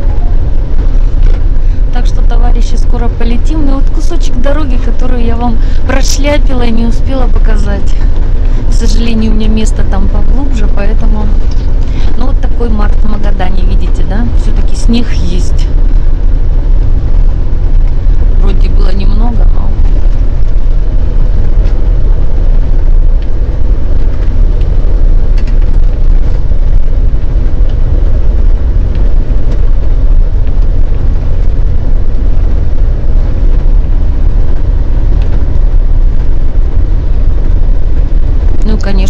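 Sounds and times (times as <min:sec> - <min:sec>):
bus engine and tyre rumble: 0:00.0 - 0:39.0.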